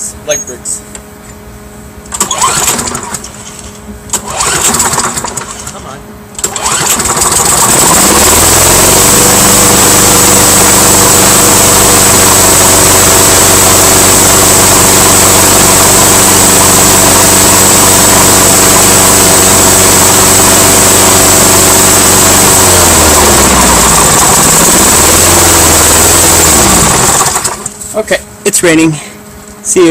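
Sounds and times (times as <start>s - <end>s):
lawn mower engine running: 2.0s - 27.9s.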